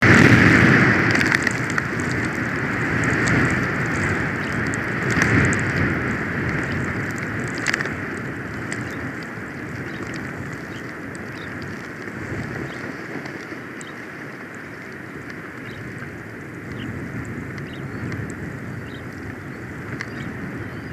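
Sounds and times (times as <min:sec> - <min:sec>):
storm wind gusting on microphone: 0:00.0 - 0:20.9
faint clicks: 0:01.0 - 0:20.9.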